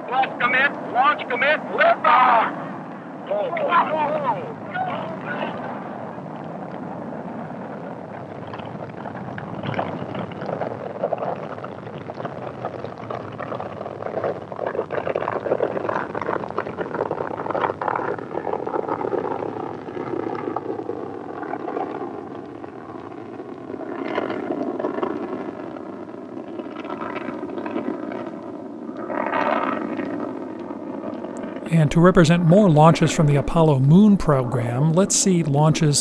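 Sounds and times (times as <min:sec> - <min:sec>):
rocket engines roaring at liftoff: 0:00.0 - 0:36.0.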